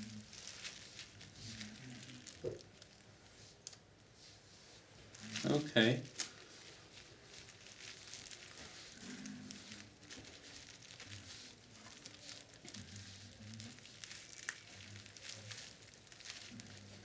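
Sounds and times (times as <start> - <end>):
faint rustling of hands: 0.0 - 17.0.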